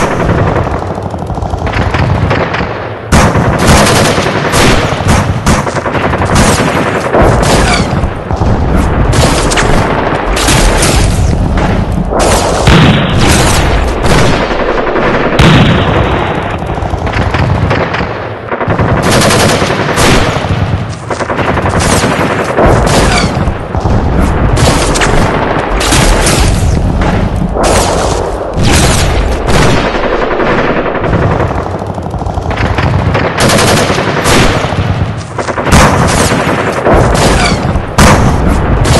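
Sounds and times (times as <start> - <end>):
rifle gunfire: 0.0 - 38.9.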